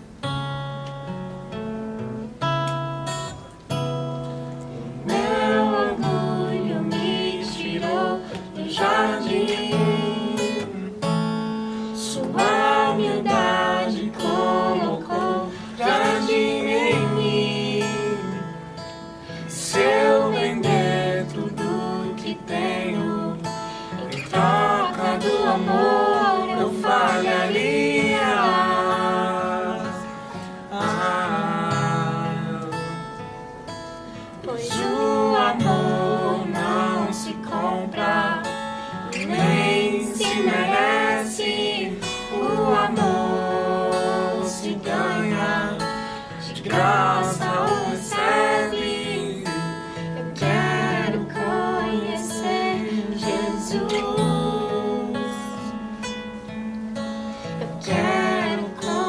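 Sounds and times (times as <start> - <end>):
strummed acoustic guitar: 0.0 - 59.0
person singing: 4.7 - 33.2, 34.1 - 55.8, 57.6 - 59.0.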